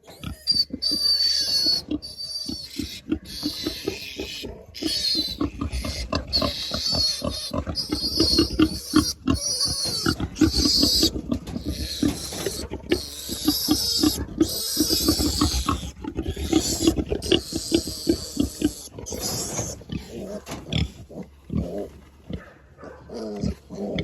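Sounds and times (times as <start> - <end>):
pig grunts: 0.0 - 24.0
piglet squealing: 0.1 - 20.4.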